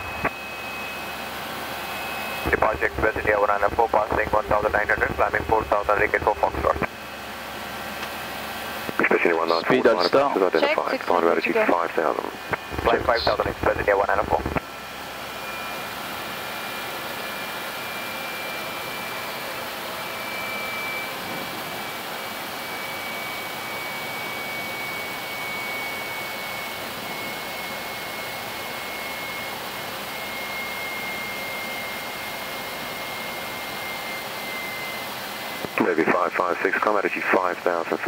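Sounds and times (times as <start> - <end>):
airflow and engine noise: 0.0 - 38.0
faint high whine: 0.0 - 38.0.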